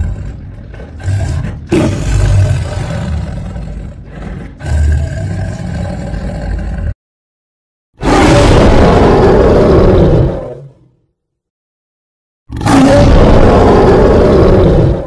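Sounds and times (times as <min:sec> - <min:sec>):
tiger roaring: 0:00.0 - 0:07.0, 0:08.0 - 0:11.0, 0:12.5 - 0:15.0.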